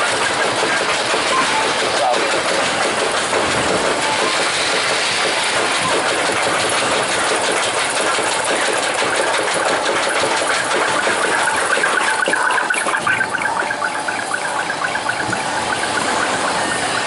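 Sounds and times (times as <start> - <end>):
roller coaster lift chain clatter: 0.0 - 17.0.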